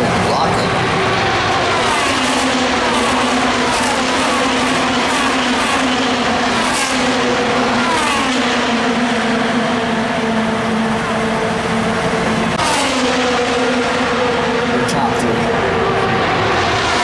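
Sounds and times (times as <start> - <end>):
race cars passing by: 0.0 - 17.0
racing engines droning: 0.0 - 17.0.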